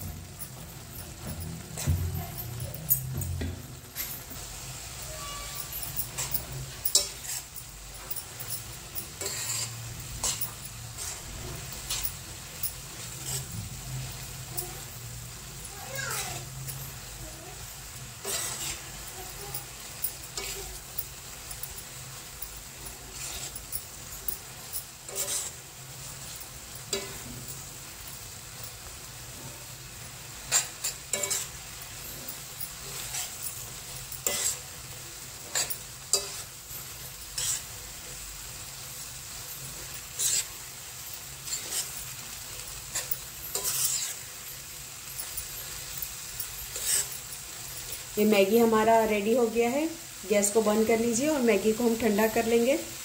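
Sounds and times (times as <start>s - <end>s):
food sizzling: 0.0s - 53.0s
spatula scraping a pan: 0.2s - 53.0s.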